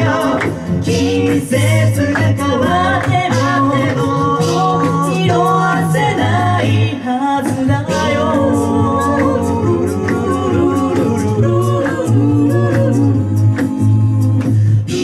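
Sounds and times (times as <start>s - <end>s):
a cappella group singing harmony: 0.0s - 15.0s
low sung bass line: 0.0s - 15.0s
vocal percussion hits: 0.0s - 15.0s.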